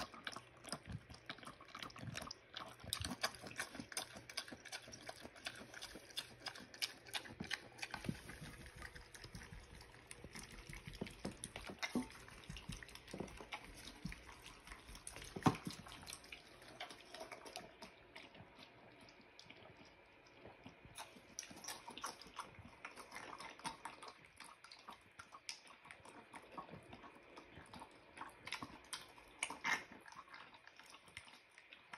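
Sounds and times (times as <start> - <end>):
pig slurping and smacking: 0.0 - 31.9.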